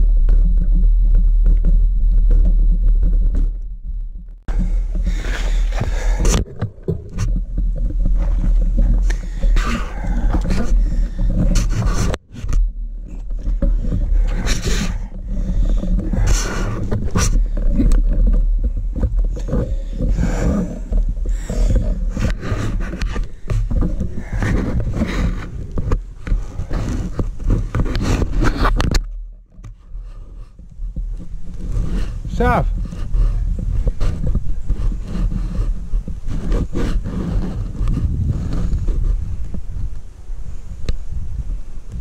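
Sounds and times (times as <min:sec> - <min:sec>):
microphone being jostled: 0:00.0 - 0:42.0
camera handling rustling and scraping: 0:04.5 - 0:39.7.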